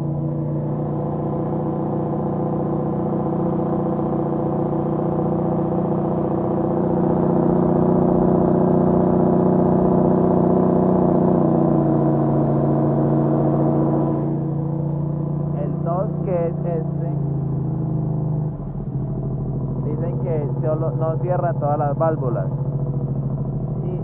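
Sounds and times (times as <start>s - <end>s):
truck engine brake drone: 0.0s - 20.9s.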